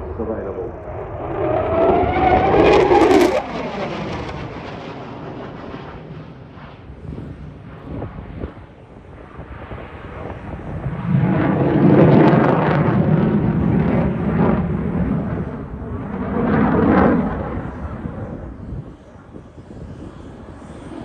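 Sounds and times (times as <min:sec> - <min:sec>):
fighter jet engines roaring: 0:00.0 - 0:21.0.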